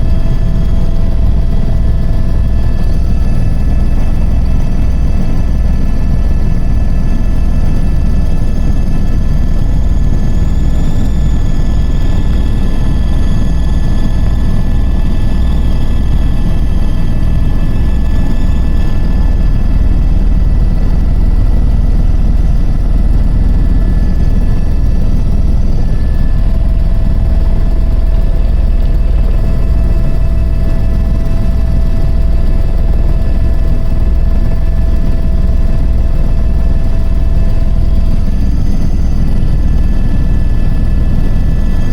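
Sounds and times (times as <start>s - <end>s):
helicopter engine whine: 0.0s - 41.9s
helicopter rotor beat: 0.0s - 41.9s.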